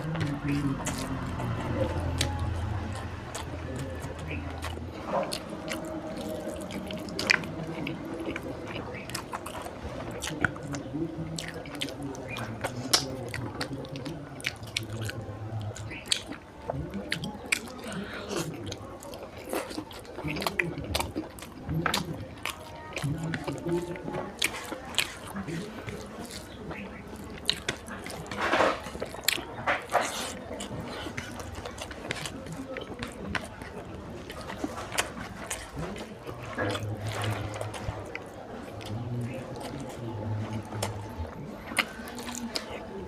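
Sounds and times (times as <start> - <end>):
wet chewing and lip smacking: 0.0 - 43.0.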